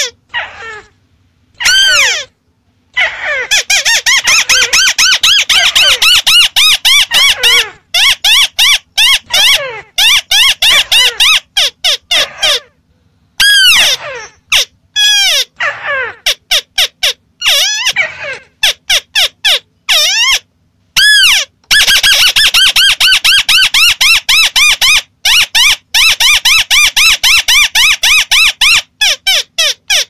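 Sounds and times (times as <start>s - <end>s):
bird calling harsh notes: 0.0s - 12.8s, 13.4s - 30.0s.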